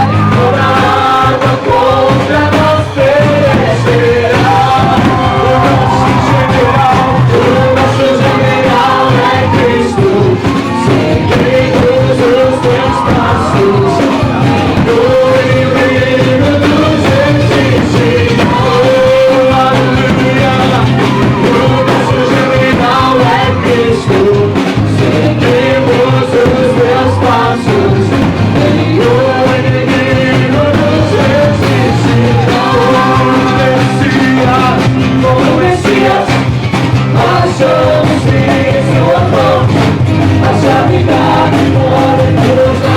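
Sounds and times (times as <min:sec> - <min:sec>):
band accompaniment: 0:00.0 - 0:42.9
group singing worship song: 0:00.0 - 0:42.9.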